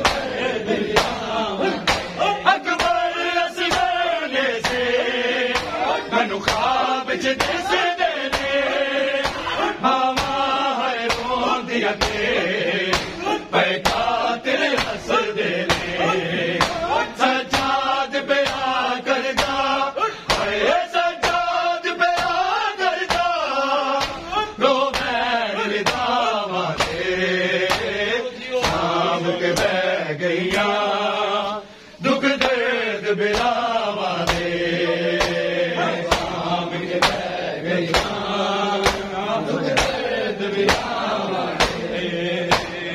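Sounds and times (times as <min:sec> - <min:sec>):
hands slapping chests: 0:00.0 - 0:04.0, 0:04.6 - 0:20.6, 0:21.2 - 0:25.2, 0:25.8 - 0:28.0, 0:28.6 - 0:29.8, 0:30.5 - 0:30.8, 0:33.3 - 0:42.9
men chanting a lament: 0:00.0 - 0:42.9.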